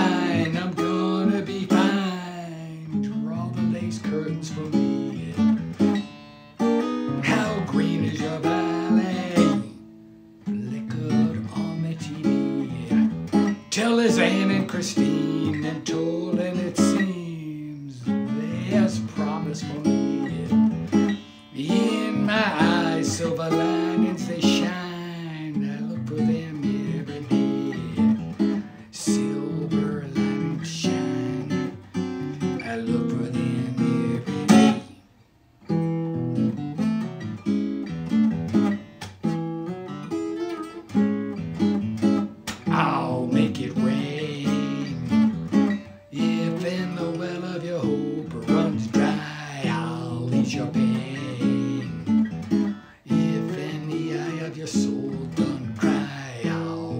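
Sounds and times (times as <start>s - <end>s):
man singing: 0.0s - 6.1s, 7.0s - 35.0s, 42.6s - 56.9s
acoustic guitar strummed: 0.0s - 56.9s.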